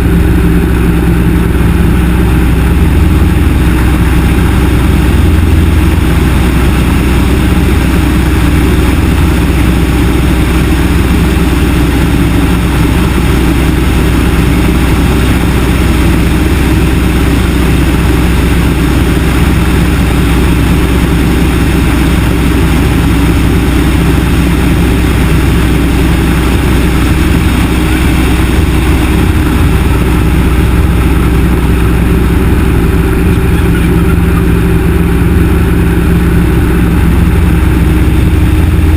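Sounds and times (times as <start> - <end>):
aircraft propeller engine drone: 0.0 - 38.9.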